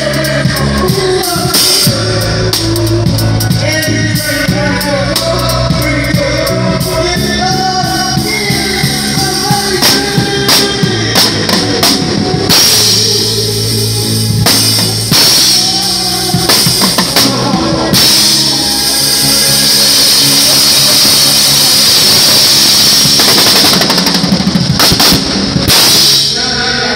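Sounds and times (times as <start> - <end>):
drum kit with crashing cymbals: 0.0 - 26.9
gospel band playing: 0.0 - 26.9
keyboard: 0.0 - 26.9
steady low notes: 0.0 - 26.9.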